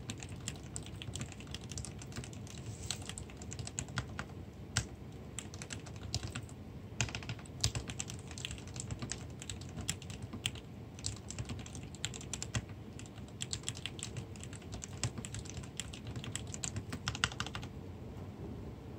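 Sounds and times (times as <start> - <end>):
mechanical keyboard typing: 0.0 - 17.7.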